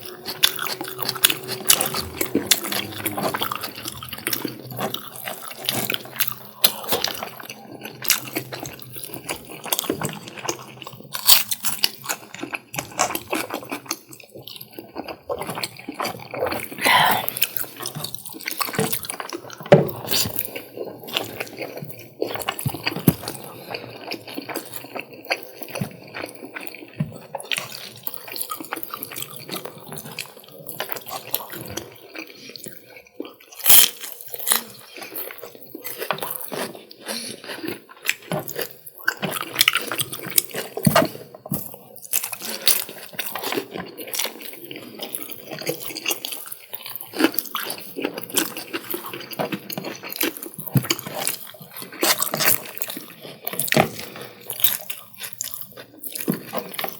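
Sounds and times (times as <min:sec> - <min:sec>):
wet chewing and smacking: 0:00.0 - 0:56.9.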